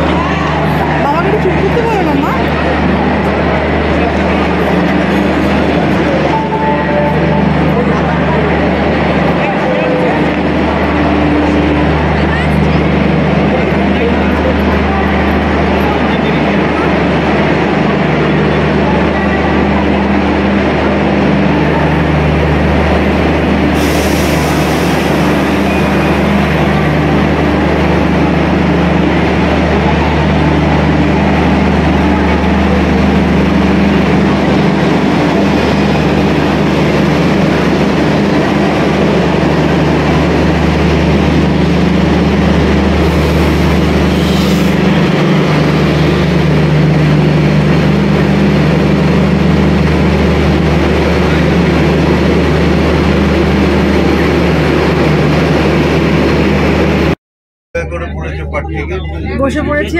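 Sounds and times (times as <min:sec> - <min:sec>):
train machinery drone: 0:00.0 - 0:57.2.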